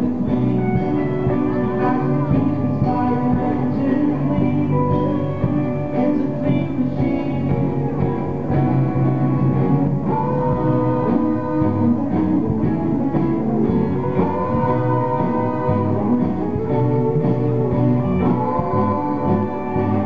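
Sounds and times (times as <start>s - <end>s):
long held notes: 0.0s - 20.0s.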